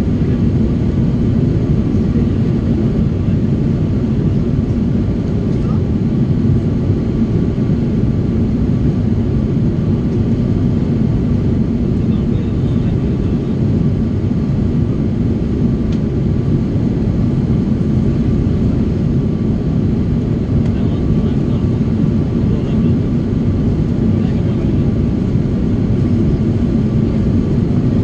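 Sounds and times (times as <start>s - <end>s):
deep rumble of engines and airflow: 0.0s - 28.0s.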